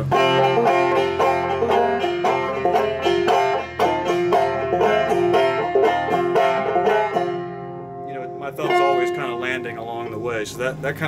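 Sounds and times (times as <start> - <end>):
banjo plucked notes: 0.0 - 11.0.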